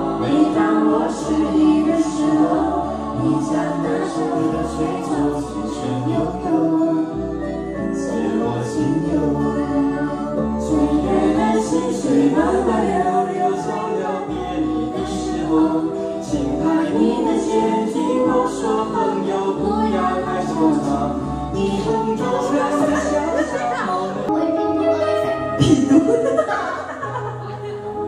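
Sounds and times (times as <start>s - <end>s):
person singing karaoke: 0.0s - 28.0s
pop backing track: 0.0s - 28.0s.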